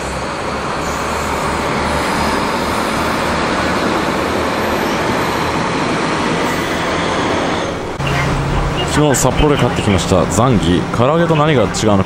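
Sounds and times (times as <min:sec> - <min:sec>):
diesel train engines and wheels: 0:00.0 - 0:12.0.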